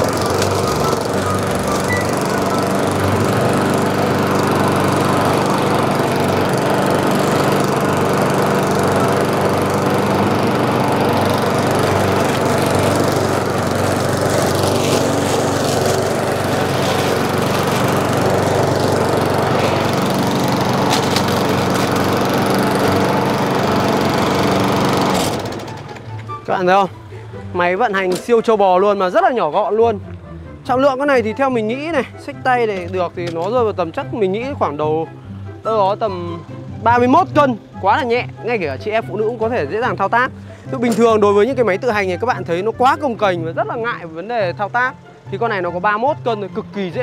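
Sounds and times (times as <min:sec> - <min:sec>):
push mower engine running: 0:00.0 - 0:47.0.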